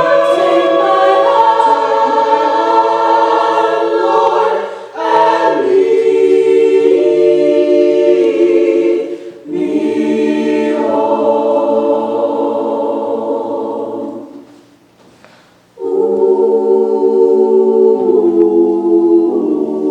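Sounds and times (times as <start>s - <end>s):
choir singing held chords: 0.0s - 14.6s, 15.7s - 19.9s.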